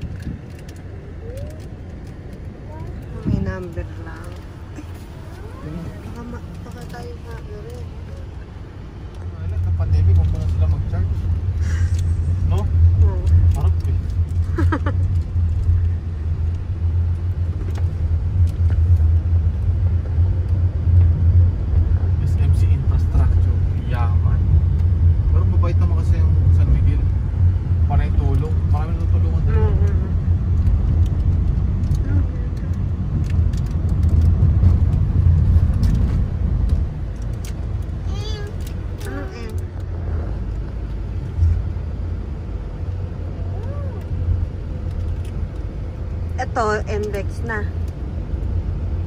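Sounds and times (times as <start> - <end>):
car road and engine rumble: 0.0 - 49.0.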